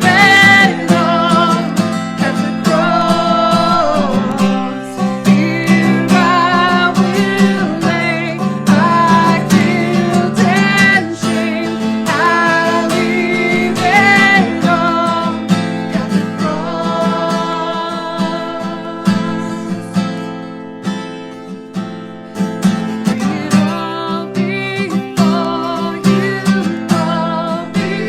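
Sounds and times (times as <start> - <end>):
person singing: 0.0 - 21.5, 22.3 - 28.0
acoustic guitar strummed: 0.0 - 28.0.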